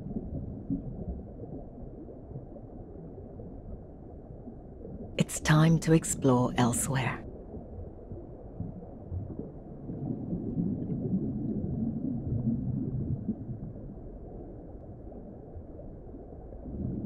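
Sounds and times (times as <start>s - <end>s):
muffled underwater rumble: 0.0s - 17.0s
water gurgle: 0.0s - 17.0s.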